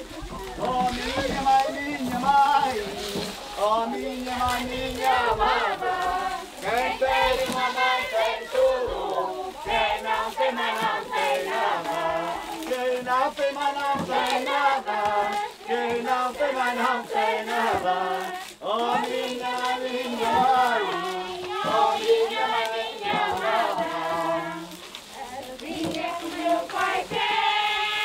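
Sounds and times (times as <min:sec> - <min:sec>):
group singing folk song: 0:00.0 - 0:28.0.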